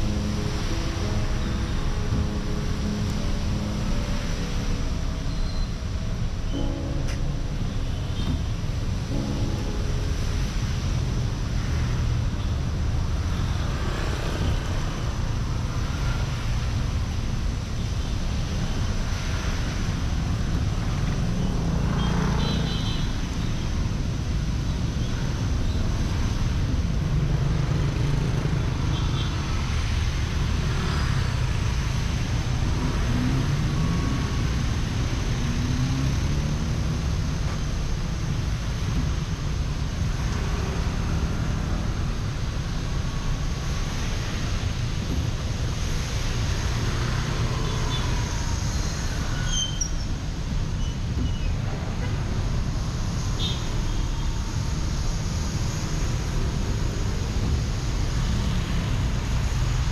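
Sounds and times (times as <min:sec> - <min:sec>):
wet road noise: 0:00.0 - 0:59.9.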